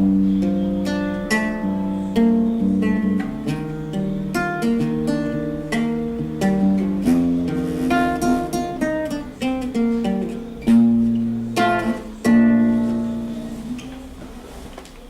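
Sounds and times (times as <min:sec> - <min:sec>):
acoustic guitar playing chords: 0:00.0 - 0:14.7.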